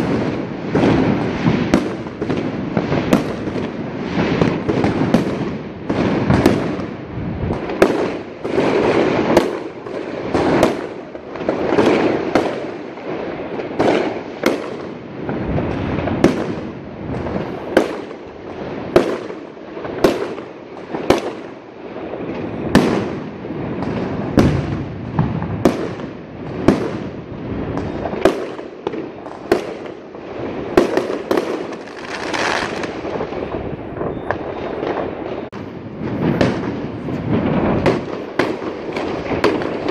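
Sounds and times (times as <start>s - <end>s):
distant fireworks bursts: 0.0s - 39.9s
fireworks sharp bangs: 0.0s - 39.9s.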